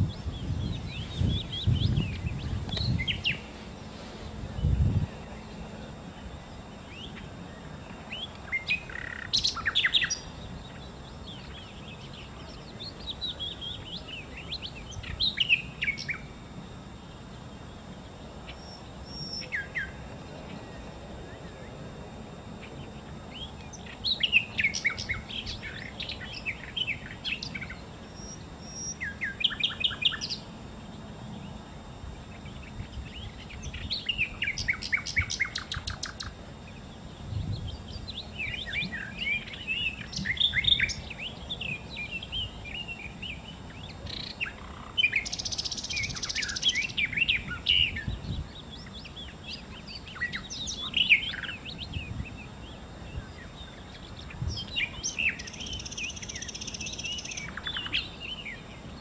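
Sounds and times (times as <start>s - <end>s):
bird singing twittering phrases: 0.0s - 59.0s.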